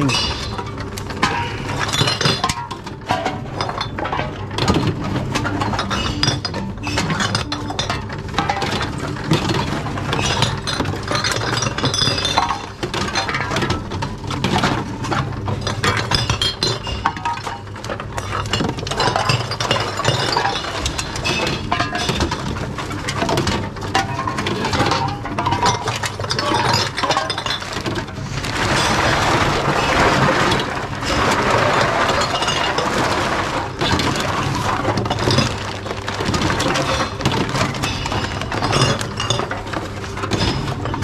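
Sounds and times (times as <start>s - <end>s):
glass bottles clinking: 0.0s - 41.0s.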